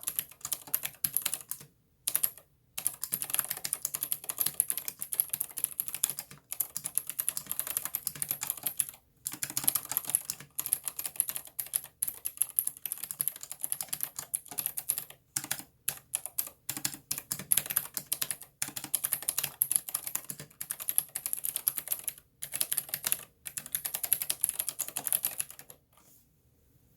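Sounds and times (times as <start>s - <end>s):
clicky keyboard typing: 0.0s - 25.8s.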